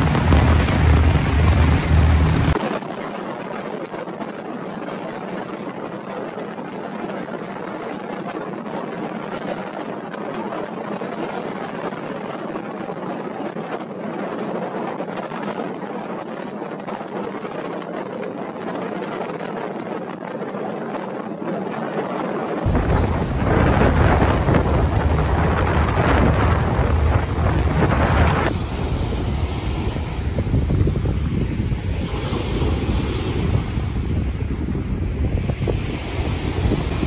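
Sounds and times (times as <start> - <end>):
choppy water: 0.0 - 37.0
wind: 0.0 - 37.0.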